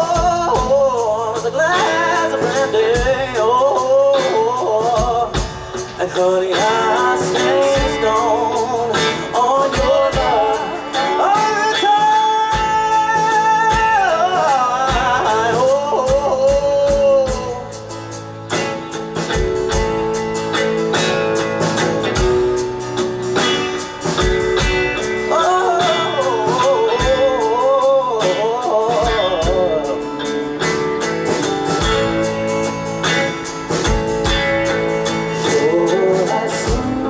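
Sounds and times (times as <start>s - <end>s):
live band with drums and guitar: 0.0s - 37.0s.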